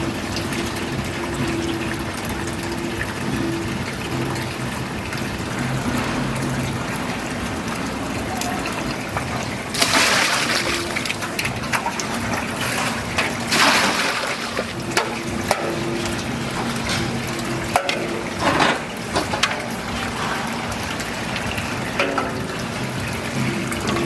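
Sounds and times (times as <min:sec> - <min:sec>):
water pouring: 0:00.0 - 0:24.0
water running and splashing: 0:00.0 - 0:24.0.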